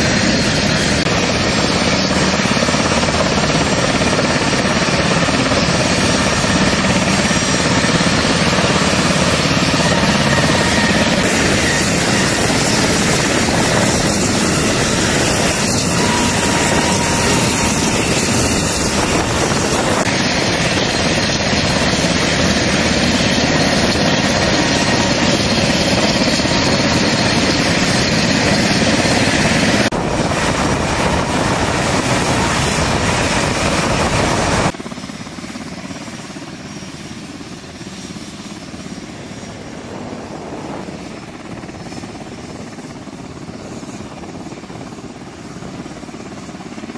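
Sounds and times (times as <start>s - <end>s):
jets taxiing hum: 0.0s - 34.8s, 36.7s - 45.3s
helicopter engines and rotor: 0.0s - 46.9s.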